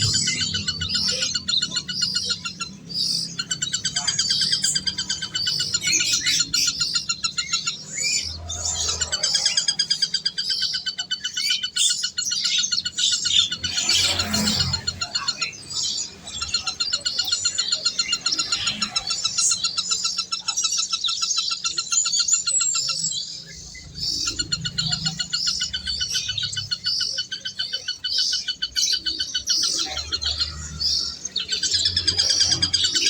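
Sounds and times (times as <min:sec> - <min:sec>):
small birds chirping and twittering: 0:00.0 - 0:33.0.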